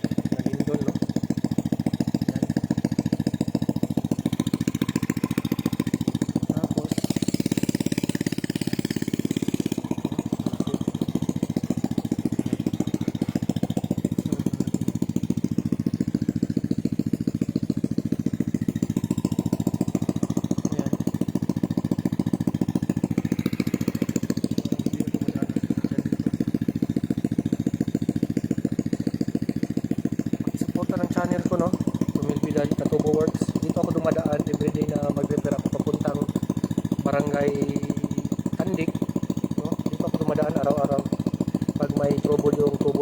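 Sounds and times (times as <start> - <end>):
small motorcycle engine running: 0.0 - 43.0.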